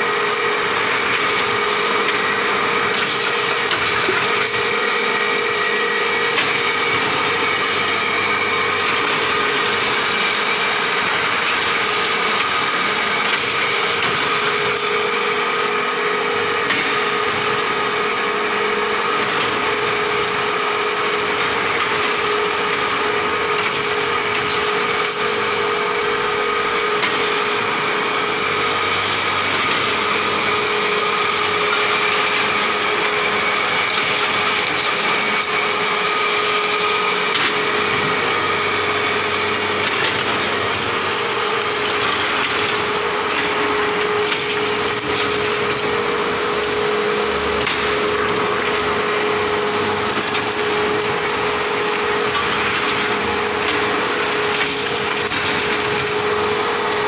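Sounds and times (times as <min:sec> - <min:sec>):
constant machine whine: 0:00.0 - 0:57.0
machine motor and rollers running: 0:00.0 - 0:57.0.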